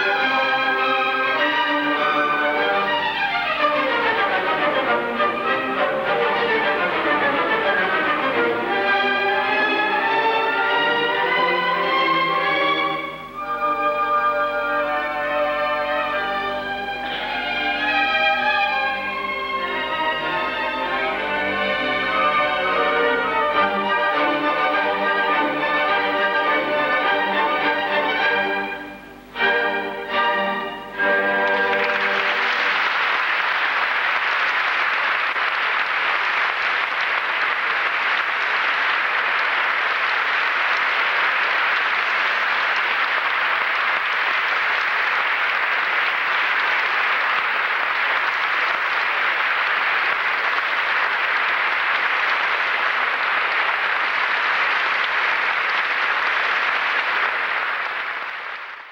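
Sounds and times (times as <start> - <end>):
audience applauding: 0.0 - 58.9.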